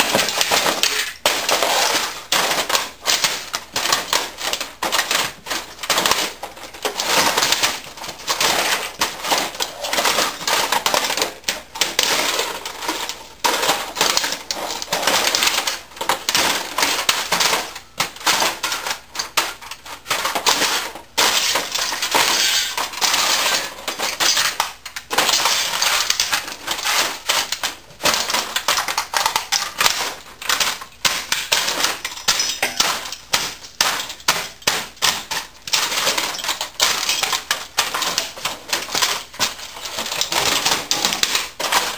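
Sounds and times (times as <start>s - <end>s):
pieces clattering on concrete: 0.0s - 41.9s
plastic cracking and crunching: 0.0s - 41.9s.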